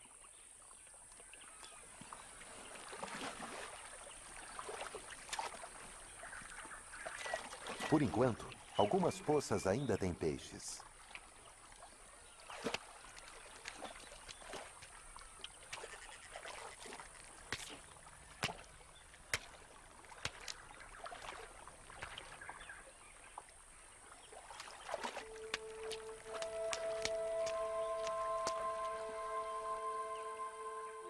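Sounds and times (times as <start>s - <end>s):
water splashing and sloshing: 0.0s - 30.7s.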